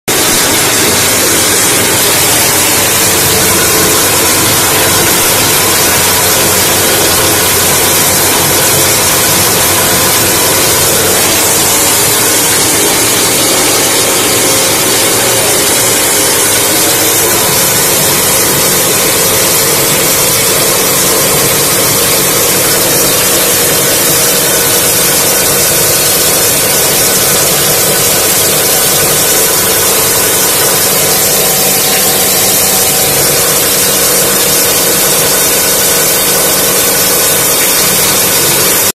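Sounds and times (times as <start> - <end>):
grain mill grinding: 0.1 - 38.9.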